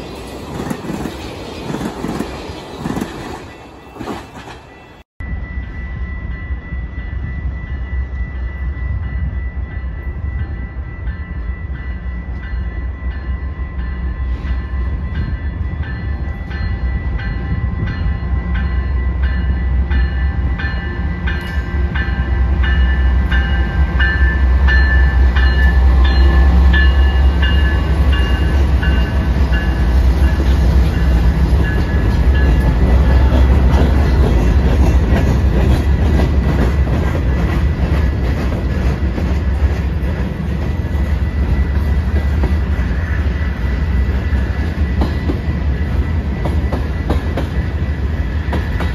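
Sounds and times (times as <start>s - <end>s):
train engines and wheels rumbling: 0.0s - 48.9s.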